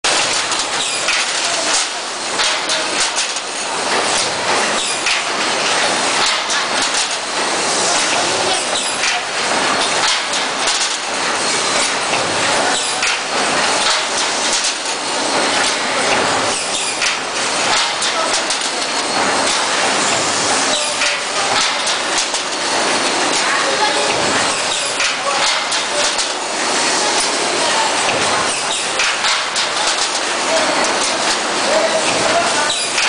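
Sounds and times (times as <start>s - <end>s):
machine metallic clatter: 0.1s - 33.0s.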